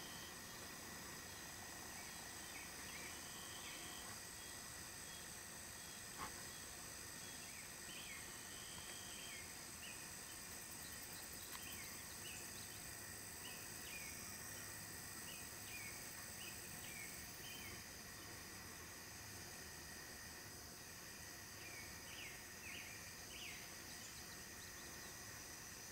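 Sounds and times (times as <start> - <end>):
high-pitched insect drone: 0.0 - 25.9.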